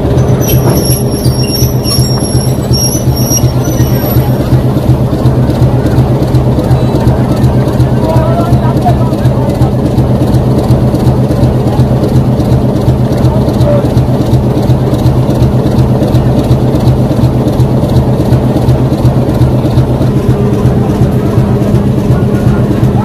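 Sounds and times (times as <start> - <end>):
diesel locomotive engine idling: 0.0 - 23.0.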